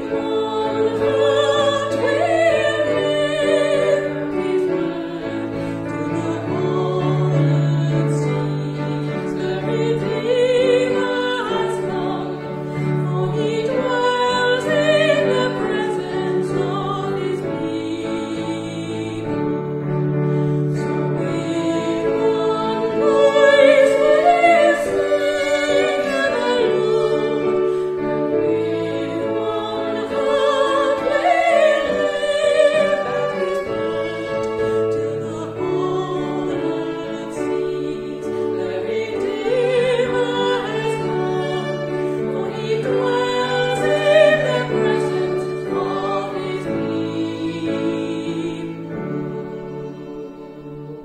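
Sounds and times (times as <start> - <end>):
woman singing a hymn: 0.0 - 19.5, 20.7 - 50.5
keyboard sustained chords: 0.0 - 51.0
violin: 0.0 - 51.0.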